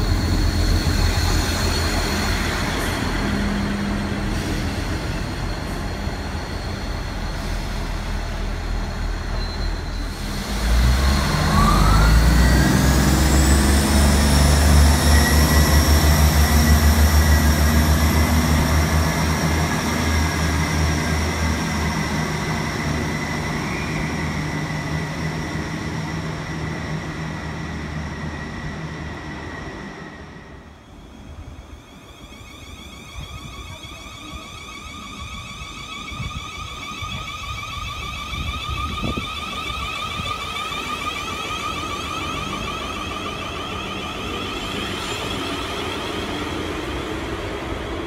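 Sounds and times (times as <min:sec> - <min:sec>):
train traction motors whining: 0:00.0 - 0:48.0.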